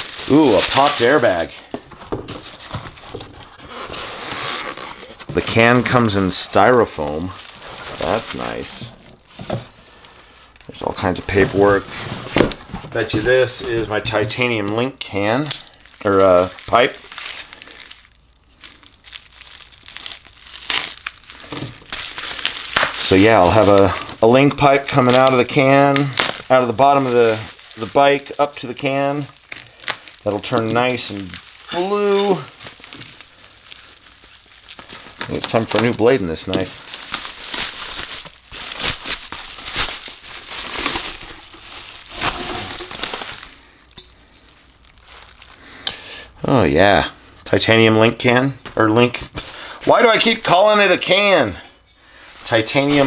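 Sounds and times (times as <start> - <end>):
bubble wrap crinkling: 0.0 - 53.0.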